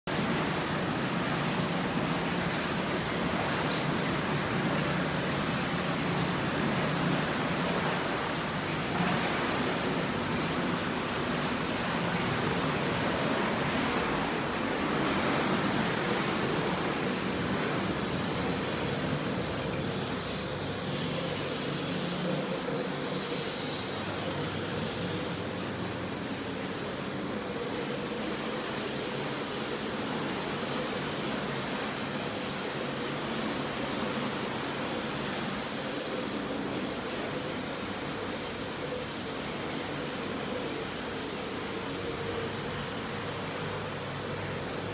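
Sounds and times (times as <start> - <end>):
water rushing and bubbling from jets: 0.1 - 44.9.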